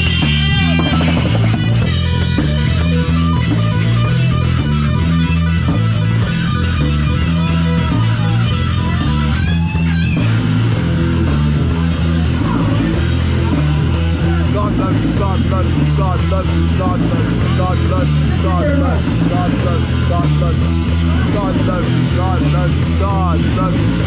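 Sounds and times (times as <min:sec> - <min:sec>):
bass guitar: 0:00.0 - 0:24.0
drums: 0:00.0 - 0:24.0
electric guitar lead: 0:00.0 - 0:24.0.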